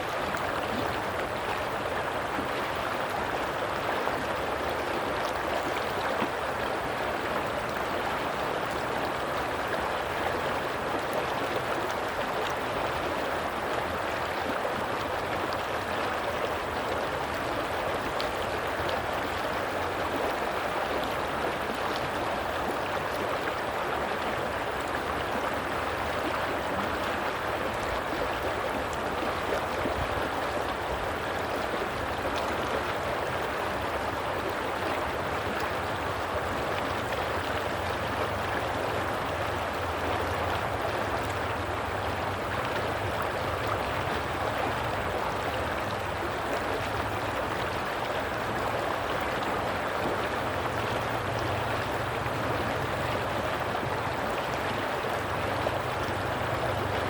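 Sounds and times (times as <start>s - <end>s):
water gurgling over rocks: 0.0s - 57.0s.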